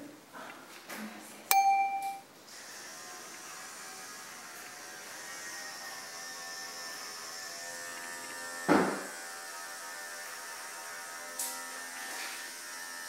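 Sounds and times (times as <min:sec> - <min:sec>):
electric clipper motor buzzing: 0:02.5 - 0:13.0.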